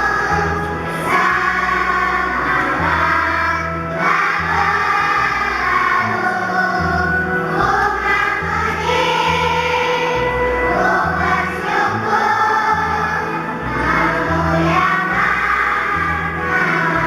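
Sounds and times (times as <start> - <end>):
children's choir singing: 0.0 - 17.0
instrumental accompaniment: 0.0 - 17.0.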